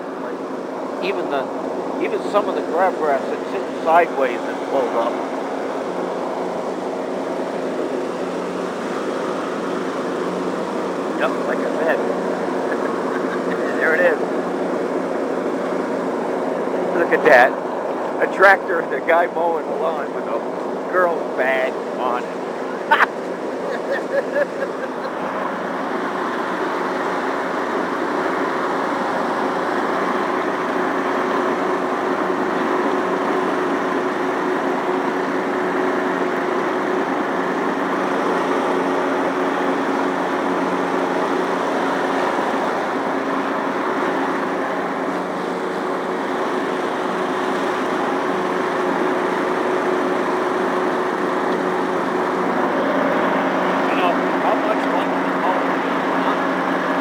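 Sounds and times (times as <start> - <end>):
lawn tractor mowing: 0.0 - 57.0.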